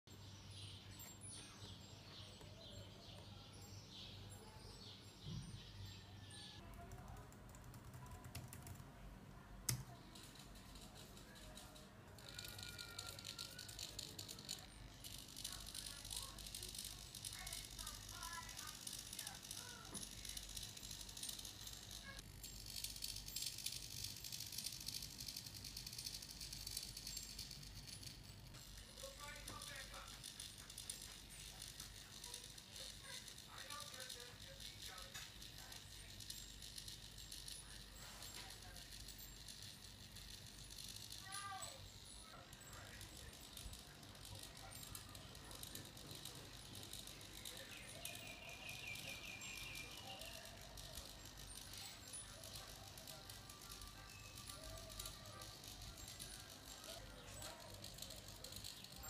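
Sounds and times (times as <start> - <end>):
servo buzzing: 9.7 - 59.0.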